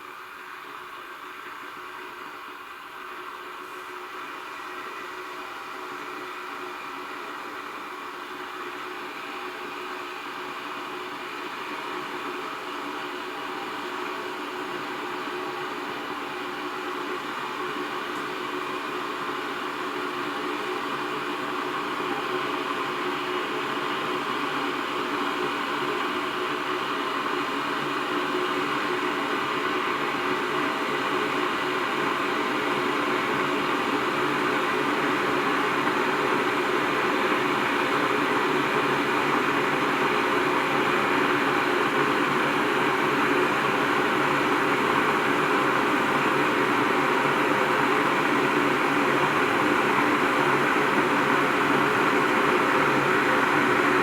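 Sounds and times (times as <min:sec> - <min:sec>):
electric kettle heating water: 0:00.0 - 0:54.0.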